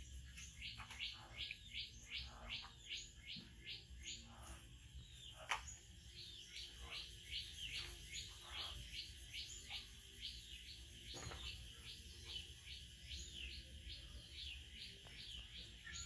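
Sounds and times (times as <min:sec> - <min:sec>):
faint rapid bird chirps: 0:00.0 - 0:16.0.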